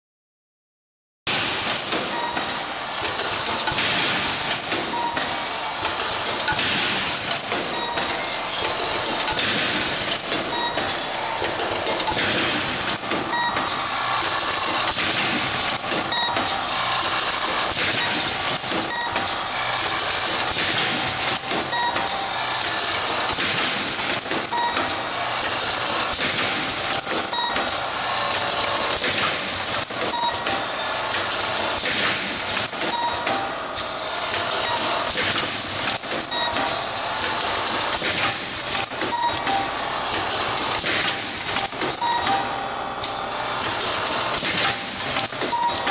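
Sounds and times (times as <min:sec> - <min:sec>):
machine whirring and hissing: 0:01.3 - 0:45.9
sharp machine clack: 0:01.3 - 0:45.9.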